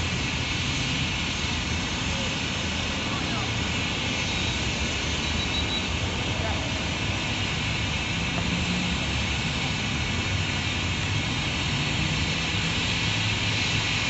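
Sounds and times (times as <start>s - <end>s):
miniature train engine hum: 0.0s - 14.0s.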